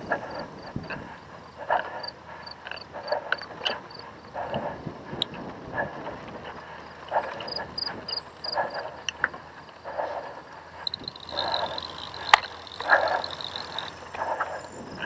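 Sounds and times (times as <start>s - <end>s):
bike rattling over bumpy grass: 0.0s - 15.0s
person breathing hard: 0.0s - 15.0s.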